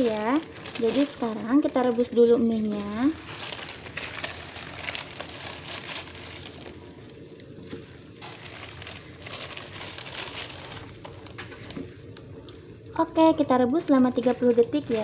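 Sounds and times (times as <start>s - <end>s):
noodles crackling in boiling water: 0.0s - 15.0s.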